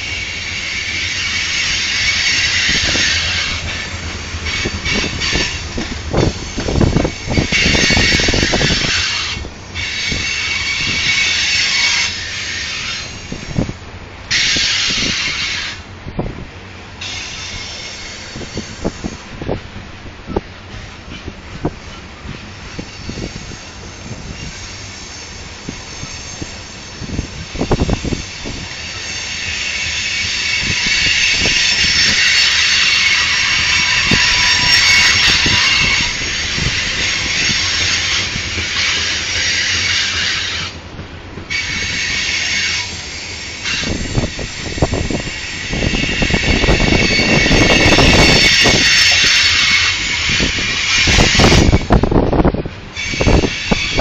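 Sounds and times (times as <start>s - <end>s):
train wheels squealing on rails: 0.0s - 15.9s, 17.0s - 19.7s, 20.3s - 54.0s
low train rumble: 0.0s - 54.0s.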